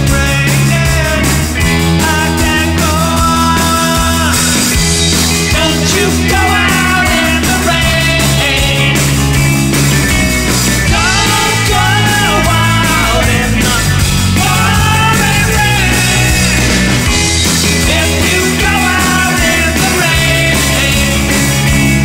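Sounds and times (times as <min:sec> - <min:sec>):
person singing lead vocal: 0:00.0 - 0:09.4, 0:10.8 - 0:22.0
bass guitar: 0:00.0 - 0:22.0
drum kit: 0:00.0 - 0:22.0
electric guitars: 0:00.0 - 0:22.0.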